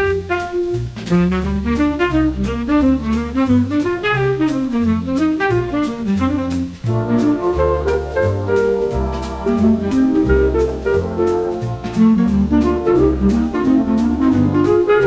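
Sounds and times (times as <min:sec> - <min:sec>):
horns: 0:00.0 - 0:15.0
instrumental jazz music: 0:00.0 - 0:15.0
walking bass line: 0:00.0 - 0:15.0
drum hits: 0:00.6 - 0:15.0.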